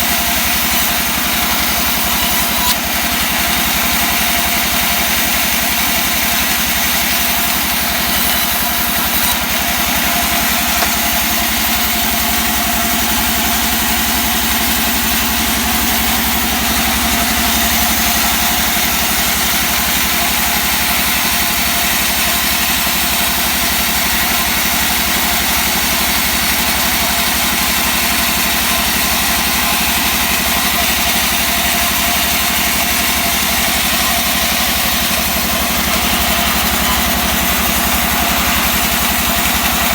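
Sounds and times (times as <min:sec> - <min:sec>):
engine-powered saw cutting wood: 0:00.0 - 0:39.9.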